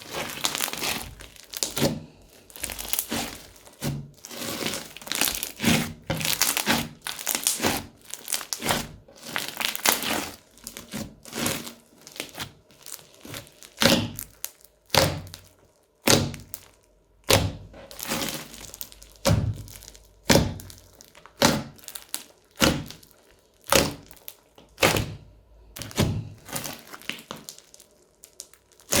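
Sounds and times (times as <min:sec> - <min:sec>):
crunchy slime crackling and popping: 0:00.0 - 0:29.0.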